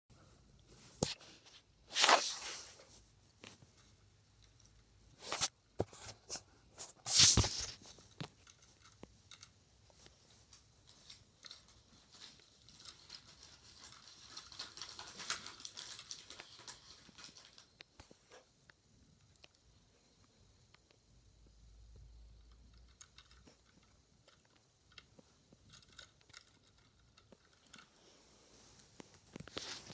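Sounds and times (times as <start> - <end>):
handling noise rustling and scraping: 0.2 - 18.6, 22.5 - 29.9.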